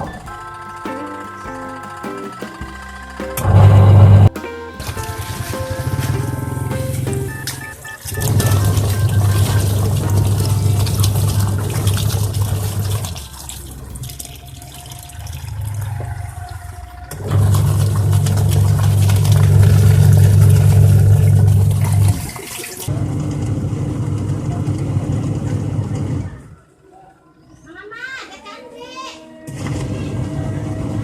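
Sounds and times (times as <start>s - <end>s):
washing machine motor humming: 0.0s - 26.3s.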